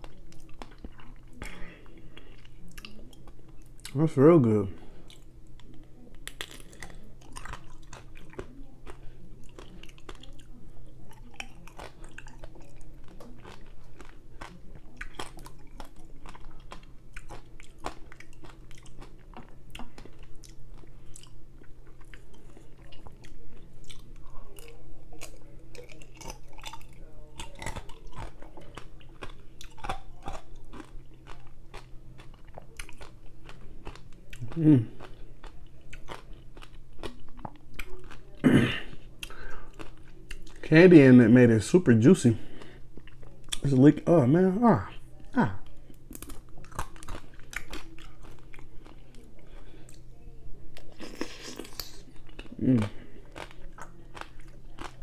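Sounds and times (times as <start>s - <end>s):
chewing and biting: 0.0s - 4.0s, 4.8s - 40.7s, 42.4s - 43.8s, 45.0s - 55.0s
faint steady hum: 0.0s - 55.0s.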